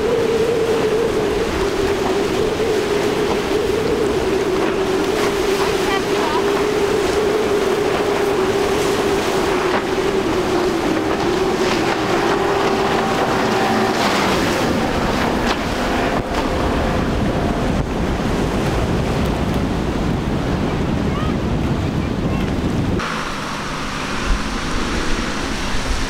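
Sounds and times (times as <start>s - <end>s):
outboard motors running: 0.0s - 26.0s
water rushing off hull: 0.0s - 26.0s.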